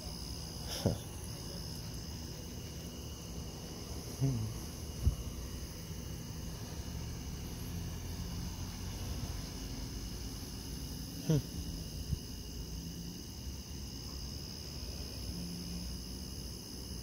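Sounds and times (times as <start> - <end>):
night insect chorus: 0.0 - 17.0.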